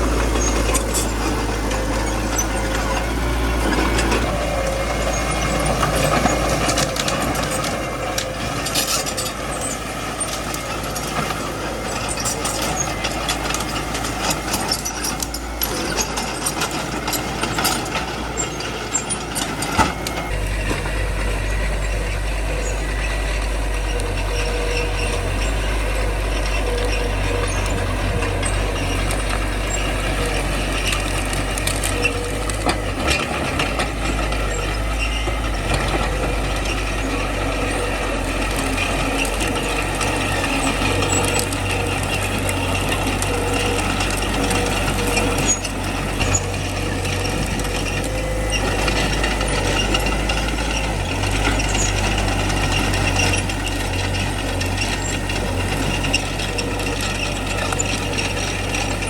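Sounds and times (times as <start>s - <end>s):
diesel engine running: 0.0s - 59.0s
tracks clanking and squeaking: 0.0s - 59.0s.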